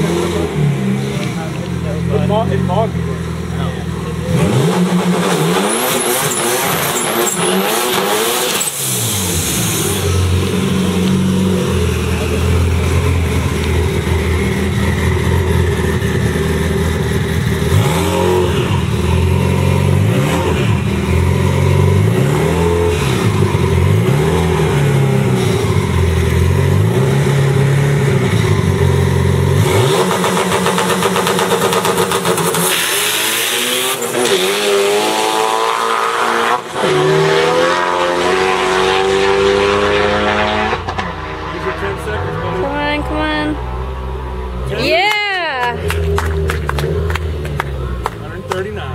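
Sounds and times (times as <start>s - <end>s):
car engine throttle blips: 0.0s - 48.9s
car accelerating through gears: 4.1s - 45.0s.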